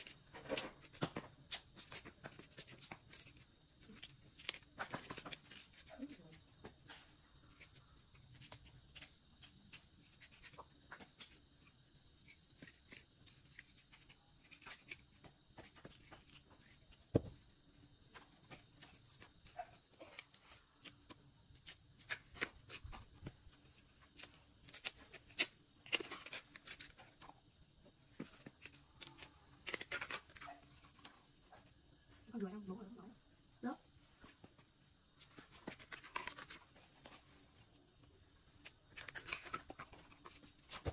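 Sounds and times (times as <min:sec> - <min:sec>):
insects shrilling: 0:00.0 - 0:32.8.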